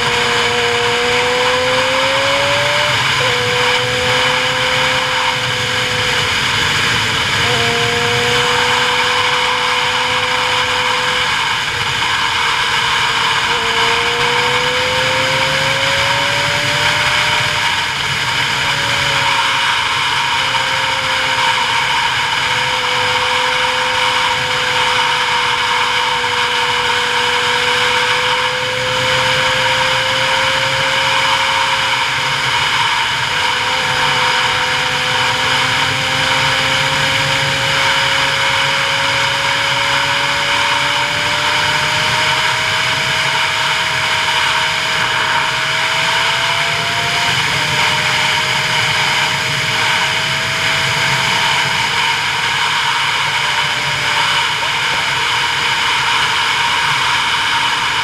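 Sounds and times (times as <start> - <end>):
road and wind noise: 0.0 - 58.0
vehicle motor hum: 0.0 - 58.0.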